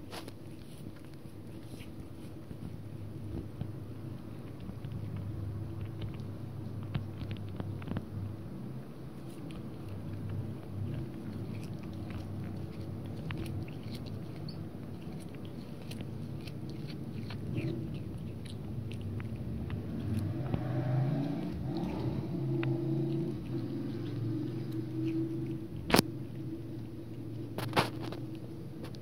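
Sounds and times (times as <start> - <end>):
cat chewing grass: 0.0 - 29.0
steady low hum: 0.0 - 29.0.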